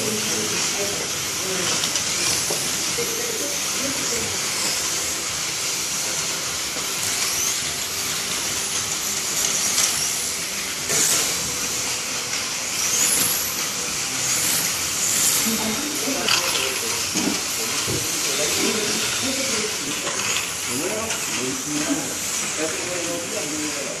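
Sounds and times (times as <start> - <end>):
slot car motors whining: 0.0 - 24.0.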